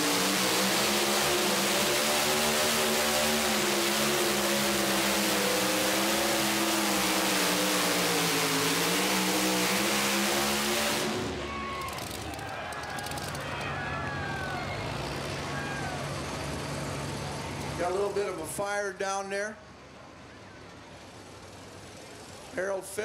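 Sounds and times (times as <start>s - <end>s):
truck engine revving under load: 0.0s - 18.5s.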